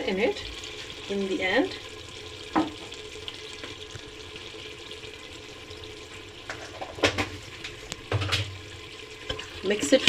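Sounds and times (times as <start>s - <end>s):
liver frying hiss in a pot: 0.0s - 10.0s.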